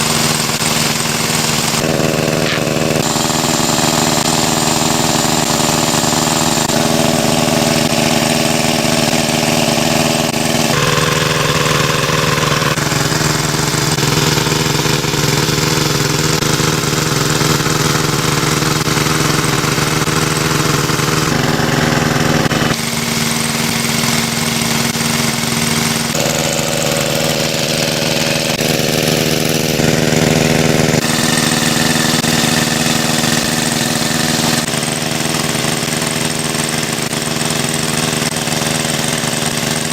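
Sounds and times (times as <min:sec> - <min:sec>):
water pump engine humming: 0:00.0 - 0:39.9.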